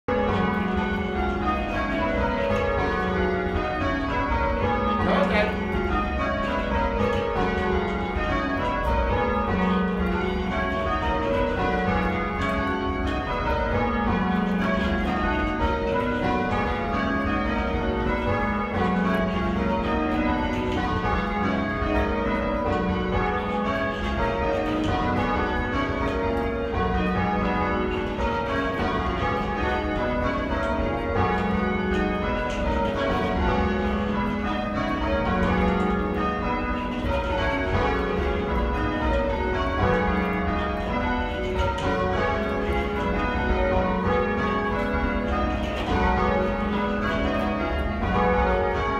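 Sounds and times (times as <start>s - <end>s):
church bells ringing: 0.1s - 48.9s.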